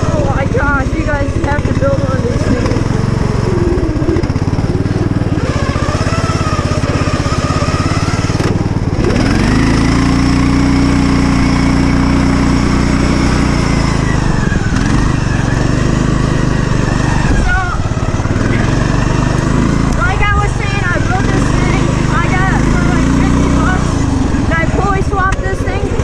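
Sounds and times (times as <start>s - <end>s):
riding lawn mower engine revving: 0.0s - 26.0s.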